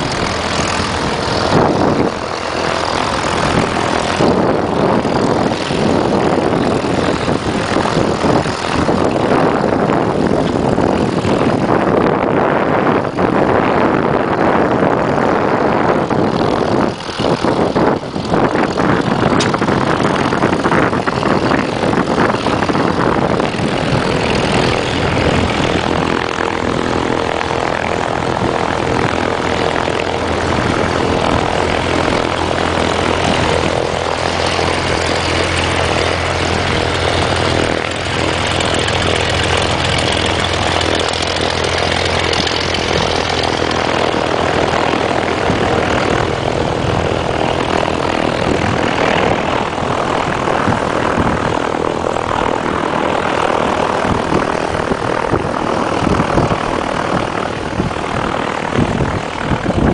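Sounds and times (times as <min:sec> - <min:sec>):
propeller aircraft engine drone: 0:00.0 - 0:59.9.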